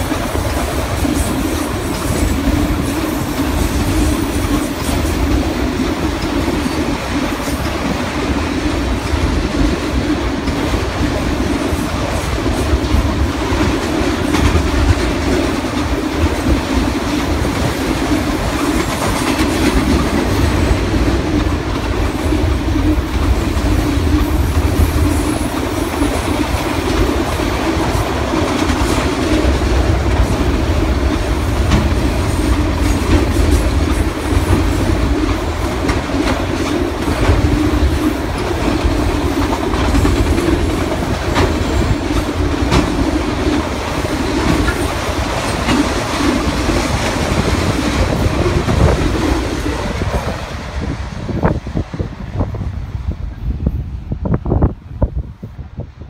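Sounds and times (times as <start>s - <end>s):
irregular rail clicks: 0.0s - 52.7s
steel wheels rumbling on rail: 0.0s - 56.0s.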